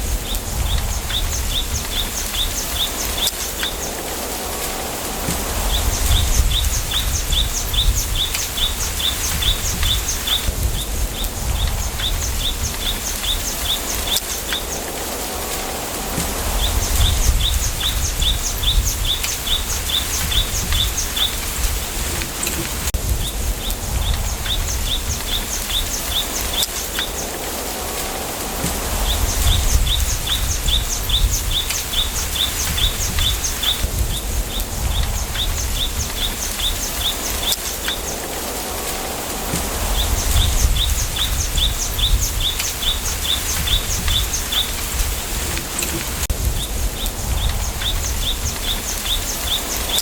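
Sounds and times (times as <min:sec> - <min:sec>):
wind in bamboo: 0:00.0 - 0:50.0.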